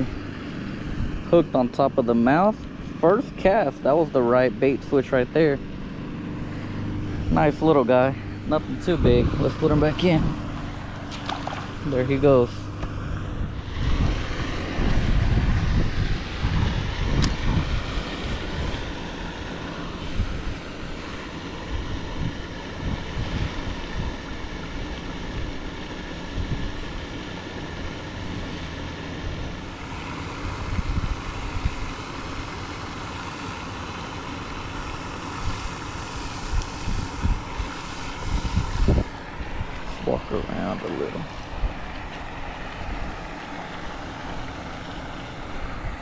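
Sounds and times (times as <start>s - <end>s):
wind gusting on microphone: 0.0s - 33.3s, 34.6s - 46.0s
outdoor noise: 0.0s - 46.0s.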